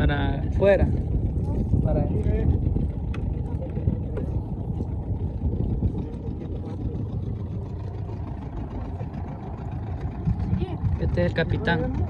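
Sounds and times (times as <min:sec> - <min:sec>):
boat motor running: 0:00.0 - 0:12.0
water noise: 0:00.0 - 0:12.0
wind: 0:00.0 - 0:12.0.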